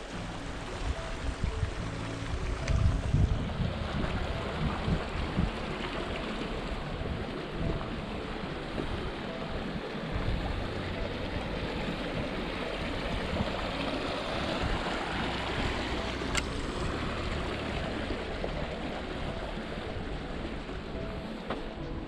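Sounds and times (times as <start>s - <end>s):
stream flowing over cascades: 0.0s - 22.0s.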